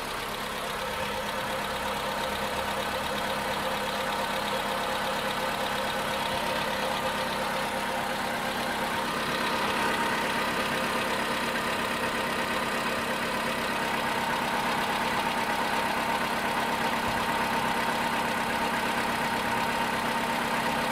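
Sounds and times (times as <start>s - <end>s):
car engine idling with knock: 0.0s - 20.9s.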